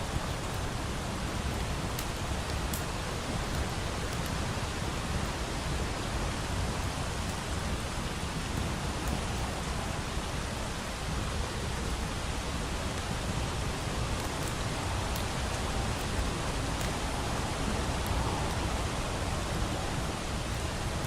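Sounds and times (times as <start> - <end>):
fireplace crackles: 0.0 - 21.0
steady rain hiss: 0.0 - 21.0.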